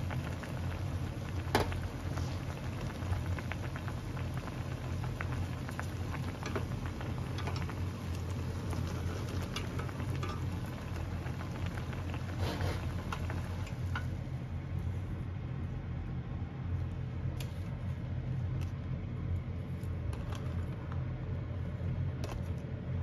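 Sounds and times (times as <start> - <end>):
broth boiling with bubbling pops: 0.0 - 23.0
steady low hum: 0.0 - 23.0.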